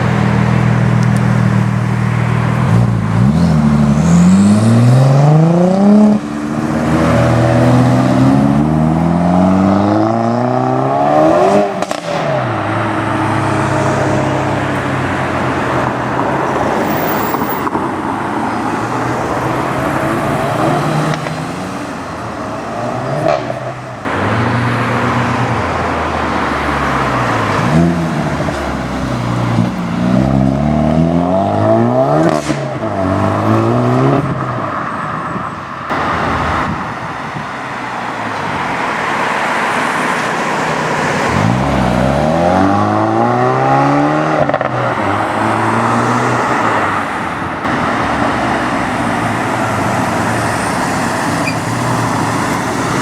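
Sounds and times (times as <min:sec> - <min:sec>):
cars accelerating: 0:00.0 - 0:53.0.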